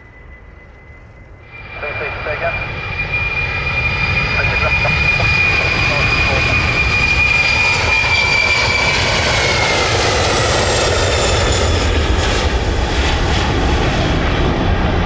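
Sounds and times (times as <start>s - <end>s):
jet engines roaring and whining: 0.0s - 15.0s.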